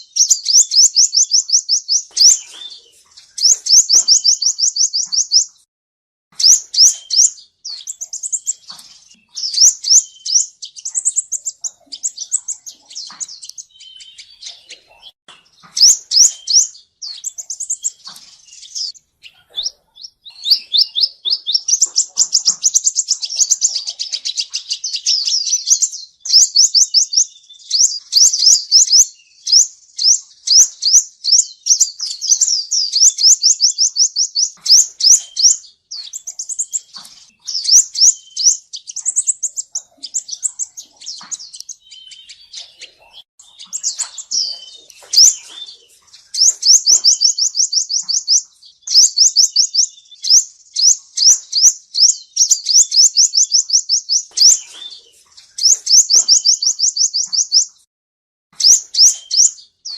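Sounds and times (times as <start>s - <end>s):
bird singing high trills: 0.0s - 5.7s, 6.4s - 57.9s, 58.6s - 59.9s.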